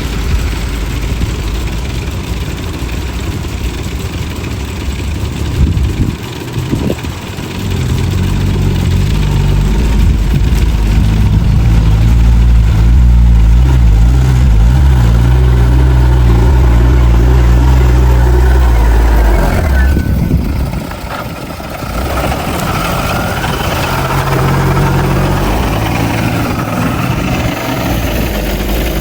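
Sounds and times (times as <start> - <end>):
heavy diesel engine under load: 0.0 - 29.0.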